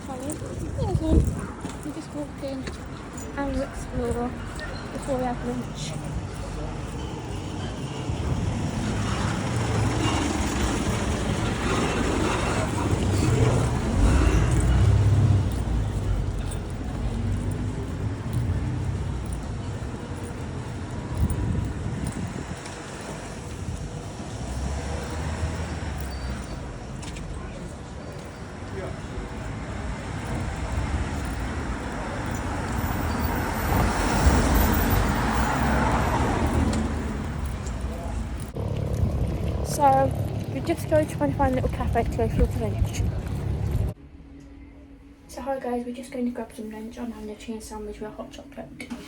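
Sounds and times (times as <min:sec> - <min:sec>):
car passing: 0:00.0 - 0:44.0
background traffic rumble: 0:00.0 - 0:49.0.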